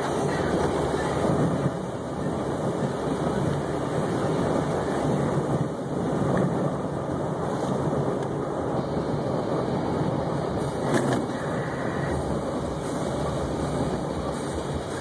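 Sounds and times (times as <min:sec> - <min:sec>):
car driving road noise: 0:00.0 - 0:15.0.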